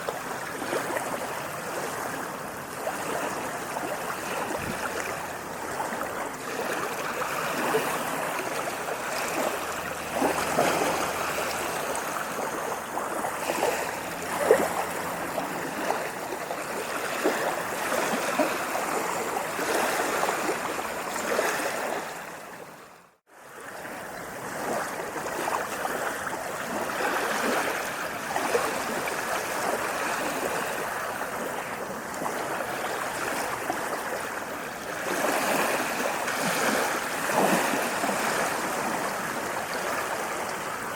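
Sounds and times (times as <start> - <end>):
sea waves splashing: 0.0 - 40.9.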